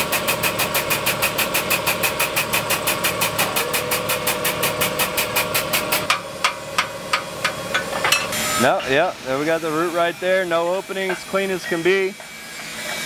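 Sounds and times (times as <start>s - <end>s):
hydraulic pump pulsing: 0.0s - 13.0s.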